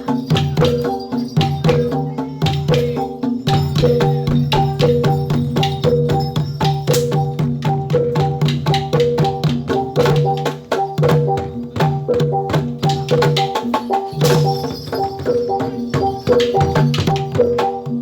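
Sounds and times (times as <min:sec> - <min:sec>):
gamelan music: 0:00.0 - 0:18.0
hand drum strokes: 0:00.0 - 0:18.0
ringing metallophone notes: 0:00.0 - 0:18.0.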